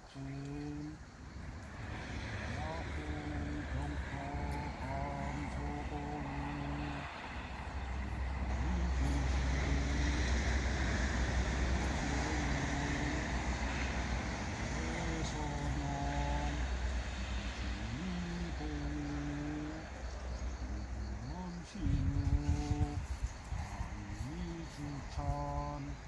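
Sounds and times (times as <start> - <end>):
low outdoor rumble: 0.0 - 26.0
man holding long sung notes: 0.0 - 26.0.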